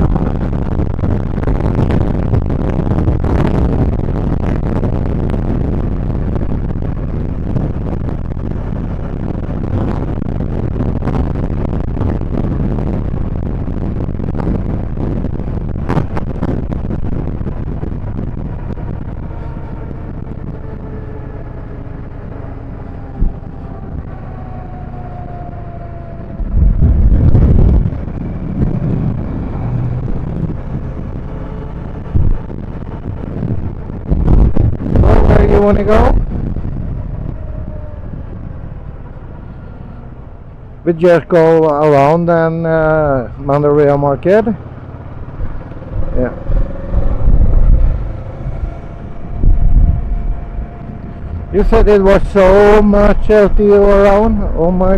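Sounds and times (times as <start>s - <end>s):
loud low rumble: 0.0s - 54.9s
vehicle engine and road rumble: 0.0s - 54.9s.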